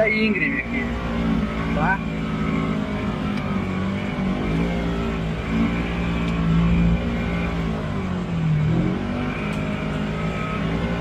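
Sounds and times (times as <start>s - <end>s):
utility vehicle engine pulling hard: 0.0s - 11.0s.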